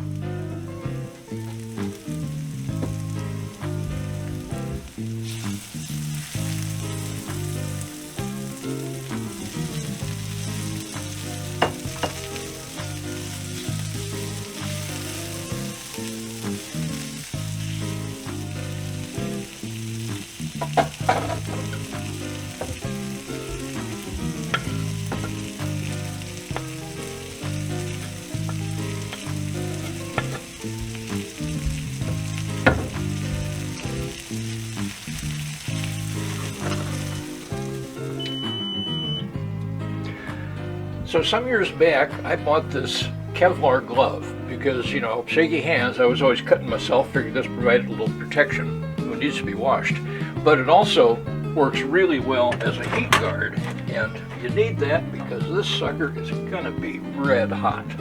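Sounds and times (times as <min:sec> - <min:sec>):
background music: 0:00.0 - 0:58.0
food sizzling in a frying pan: 0:00.0 - 0:58.0.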